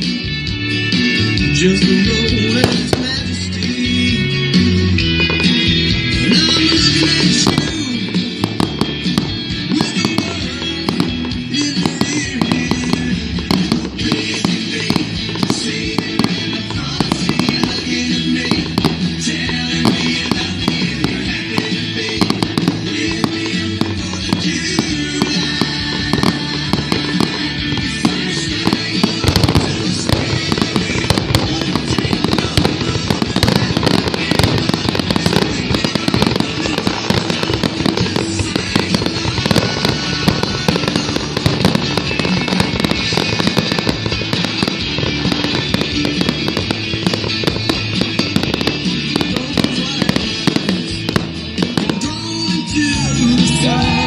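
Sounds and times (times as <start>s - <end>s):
fireworks bangs and crackle: 0.0s - 54.0s
patriotic music: 0.0s - 54.0s.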